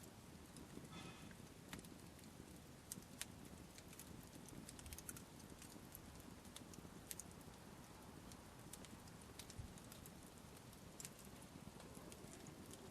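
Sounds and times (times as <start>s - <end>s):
campfire crackling and popping: 0.0s - 12.9s
soft low hiss: 0.0s - 12.9s.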